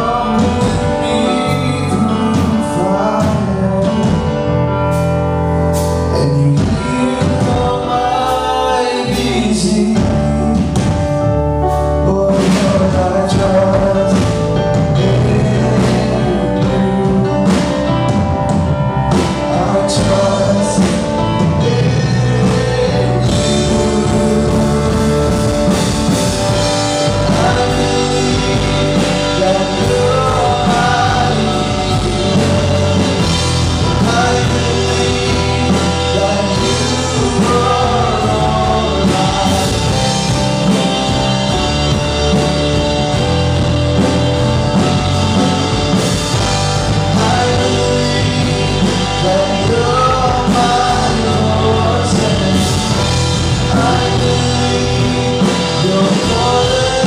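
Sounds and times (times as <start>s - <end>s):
man and woman singing: 0.0s - 4.4s, 6.1s - 11.0s, 12.0s - 17.9s, 19.1s - 41.2s, 46.3s - 57.0s
drums: 0.0s - 57.0s
electric bass: 0.0s - 57.0s
keyboard: 0.0s - 57.0s.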